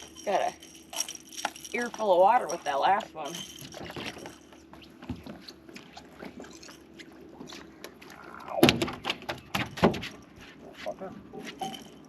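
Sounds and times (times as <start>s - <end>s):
gear clattering on boat: 0.0s - 12.0s.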